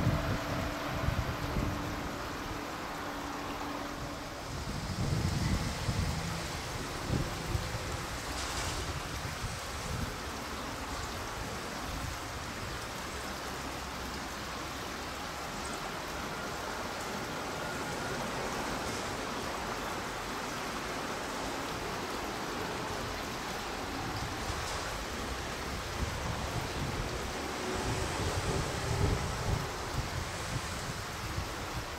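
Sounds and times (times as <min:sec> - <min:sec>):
wind rumble on microphone: 0:00.0 - 0:13.4, 0:15.4 - 0:31.9
outdoor background hiss: 0:00.0 - 0:31.9.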